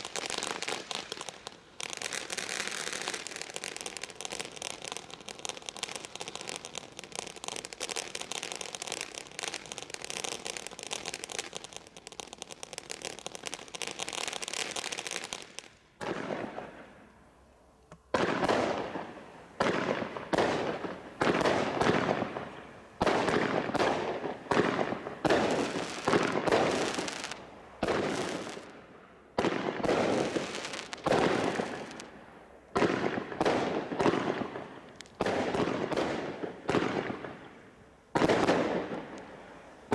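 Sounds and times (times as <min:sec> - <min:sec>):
fireworks bangs: 0:00.0 - 0:17.1, 0:18.1 - 0:39.9
fireworks crackling: 0:00.0 - 0:17.4, 0:18.1 - 0:39.9.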